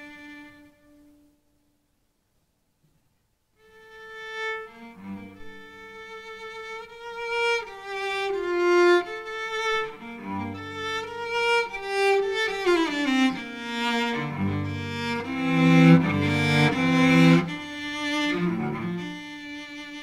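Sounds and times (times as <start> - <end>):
bowed cello melody: 3.6 - 20.0.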